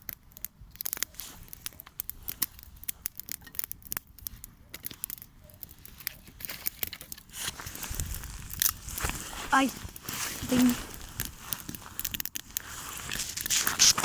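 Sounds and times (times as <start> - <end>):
campfire wood crackling: 0.0 - 14.0
rustle: 0.8 - 14.0.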